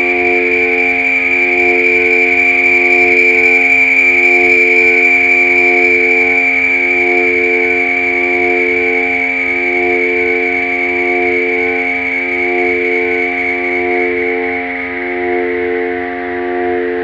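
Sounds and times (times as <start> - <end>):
synthesizer drone: 0.0 - 17.0.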